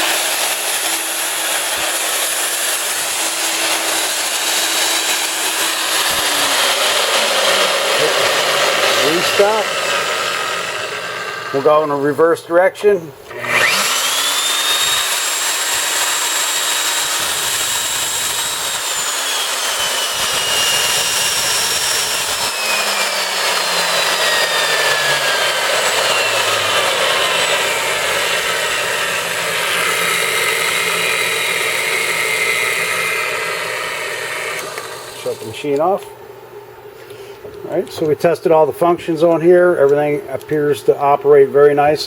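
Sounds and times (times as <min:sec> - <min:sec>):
drill press motor whine: 0:00.0 - 0:12.1, 0:12.8 - 0:35.9.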